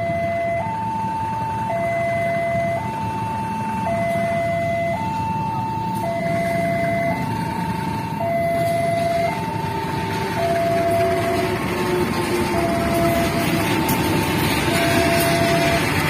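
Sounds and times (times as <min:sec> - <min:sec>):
level crossing two-tone alarm: 0:00.0 - 0:09.7, 0:10.3 - 0:16.0
diesel train rumble: 0:00.0 - 0:16.0.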